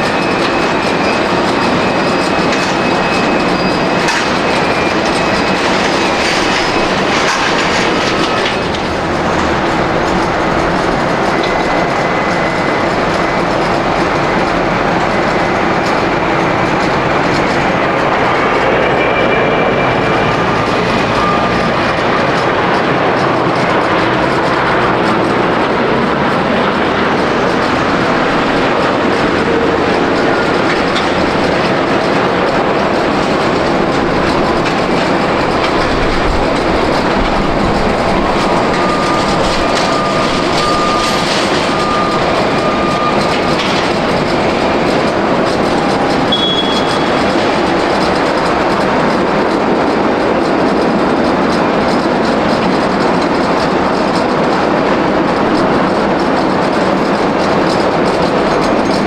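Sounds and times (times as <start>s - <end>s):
jet engine rush: 0.0s - 59.0s.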